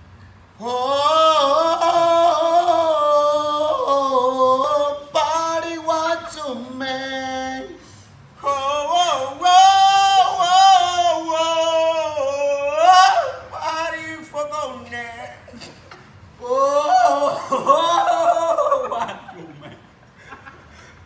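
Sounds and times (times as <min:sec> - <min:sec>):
men singing a cappella: 0:00.6 - 0:15.8, 0:16.4 - 0:19.2.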